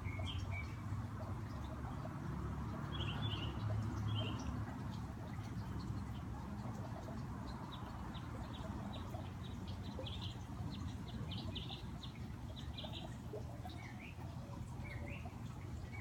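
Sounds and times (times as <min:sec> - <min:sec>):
songbird chirping: 0:00.0 - 0:02.1, 0:02.8 - 0:16.0
fountain splashing: 0:00.0 - 0:16.0.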